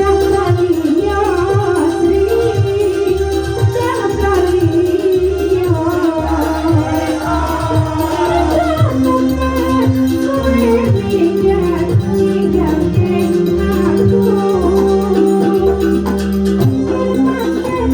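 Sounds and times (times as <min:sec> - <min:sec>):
held melody line: 0:00.0 - 0:17.9
ornamented singing: 0:00.0 - 0:17.9
steady drum beat: 0:00.0 - 0:17.9.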